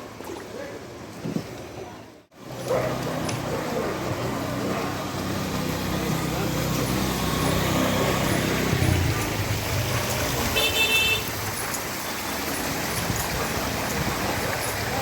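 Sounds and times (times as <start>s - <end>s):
vehicle engine rumbling: 2.3s - 15.0s.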